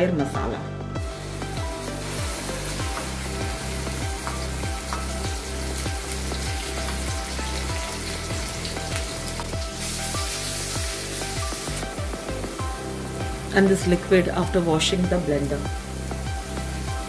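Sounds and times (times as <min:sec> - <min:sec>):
background music: 0:00.0 - 0:17.0
paste sizzling in hot oil: 0:01.0 - 0:17.0.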